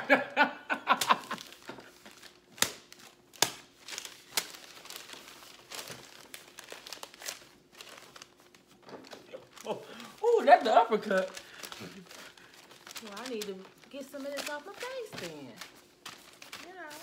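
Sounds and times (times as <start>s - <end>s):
paper crumpling: 1.0s - 17.0s
sharp paper crackles: 1.0s - 17.0s.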